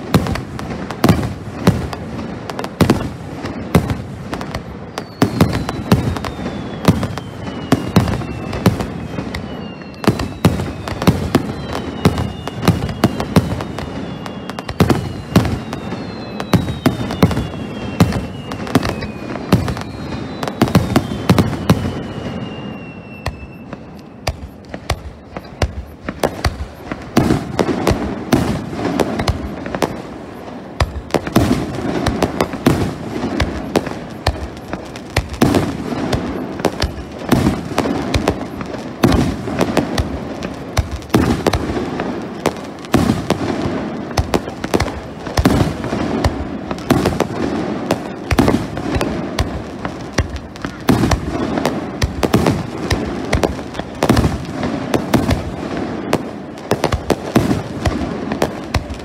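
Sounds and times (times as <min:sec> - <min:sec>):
fireworks bangs and crackling: 0:00.0 - 0:59.0
hissing ground fountain fireworks: 0:00.0 - 0:59.0.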